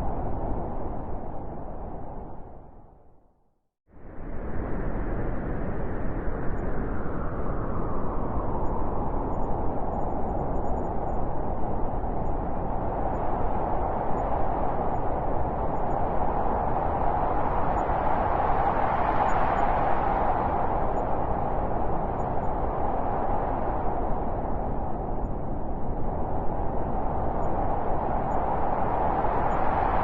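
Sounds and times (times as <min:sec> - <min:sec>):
howling blizzard wind: 0:00.0 - 0:03.2, 0:03.9 - 0:30.0.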